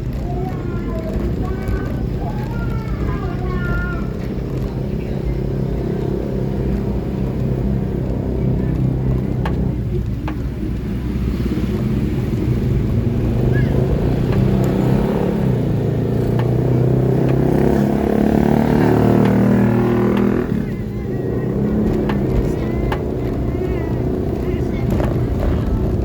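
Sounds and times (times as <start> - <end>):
motor vehicle droning: 0.0 - 26.0.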